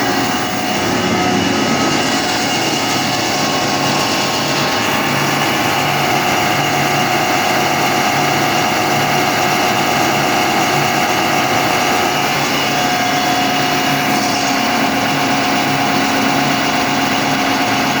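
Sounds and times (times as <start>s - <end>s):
air compressor whine and pulsing hum: 0.0s - 18.0s.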